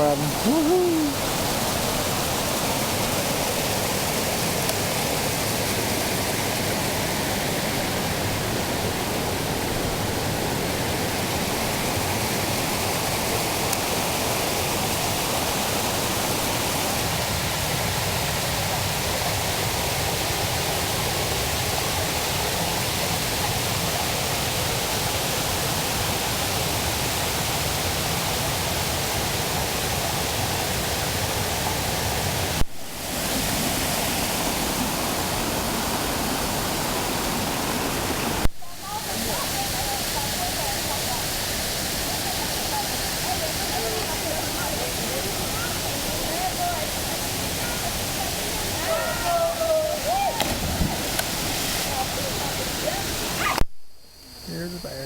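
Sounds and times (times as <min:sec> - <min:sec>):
waterfall pouring into a pool: 0:00.0 - 0:53.6.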